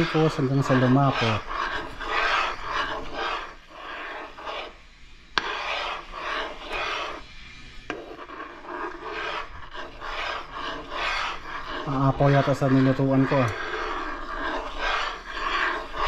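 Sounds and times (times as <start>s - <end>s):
metal spoon scraping a pan: 0.0s - 16.0s.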